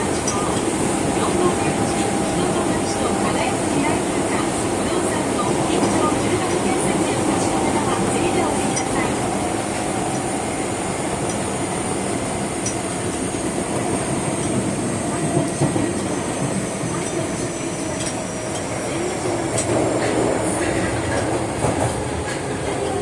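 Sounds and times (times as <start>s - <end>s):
rail joint clicks: 0.0s - 23.0s
train wheels rumbling on rails: 0.0s - 23.0s.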